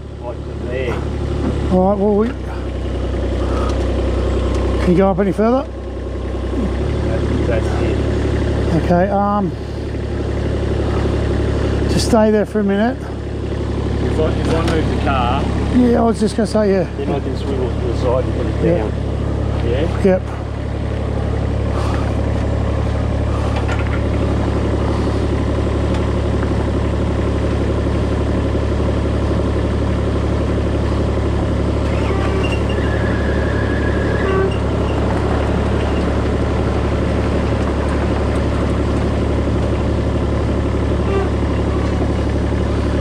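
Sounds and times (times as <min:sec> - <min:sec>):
machine engine running steadily: 0:00.0 - 0:43.0.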